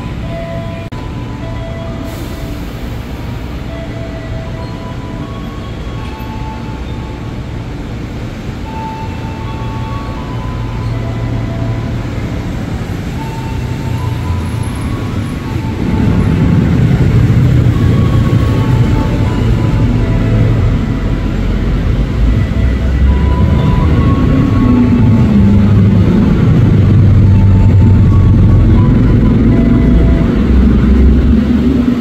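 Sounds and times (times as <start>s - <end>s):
electric train rumbling: 0.0s - 32.0s
second train arriving: 0.0s - 32.0s.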